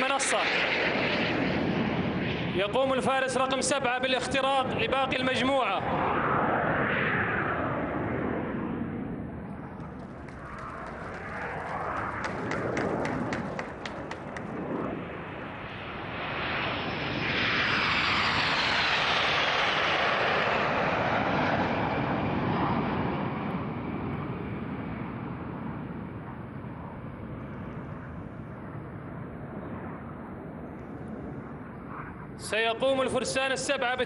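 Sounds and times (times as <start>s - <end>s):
jet aircraft roaring past: 0.0s - 34.0s.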